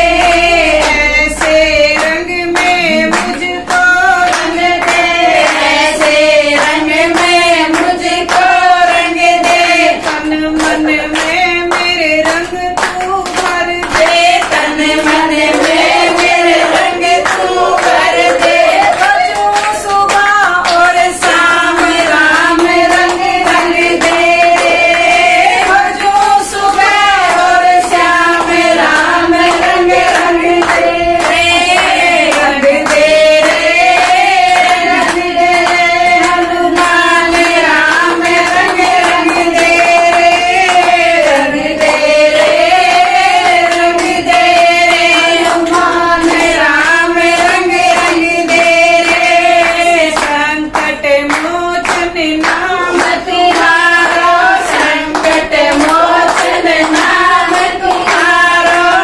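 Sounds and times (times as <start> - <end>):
hand clapping: 0.0 - 59.0
women singing devotional song: 0.0 - 59.0.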